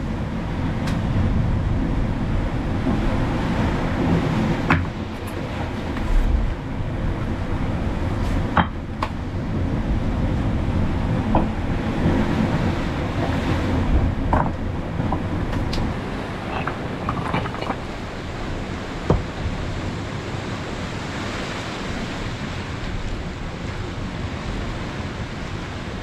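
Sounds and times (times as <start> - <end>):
wind and surf rumble: 0.0 - 26.0
wind buffeting microphone: 0.0 - 26.0.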